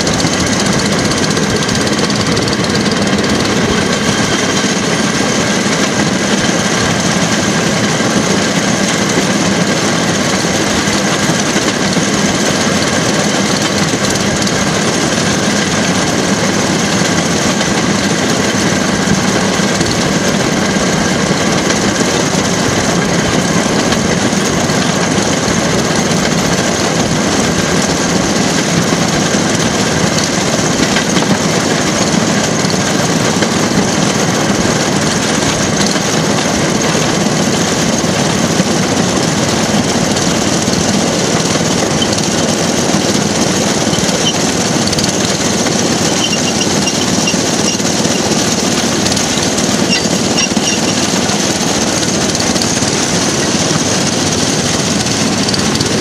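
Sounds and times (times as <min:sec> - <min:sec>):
rail car engine running: 0:00.0 - 0:56.0
wheels running on rails: 0:00.0 - 0:56.0.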